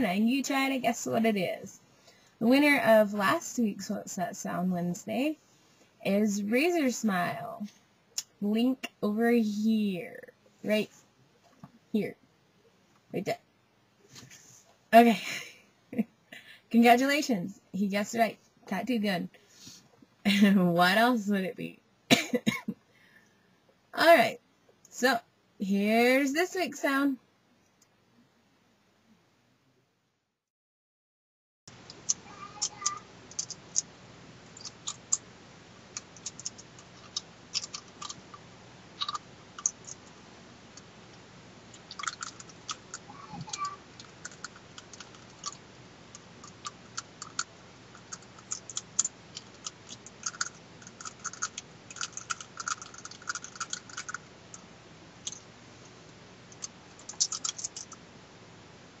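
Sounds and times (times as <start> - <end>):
faint steady hum: 0.0 - 30.2, 31.7 - 59.0.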